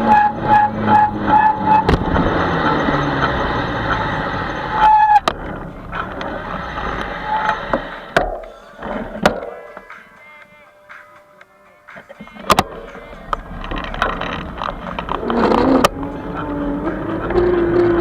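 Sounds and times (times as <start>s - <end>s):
wind and road noise: 0.0s - 9.9s, 12.4s - 18.0s.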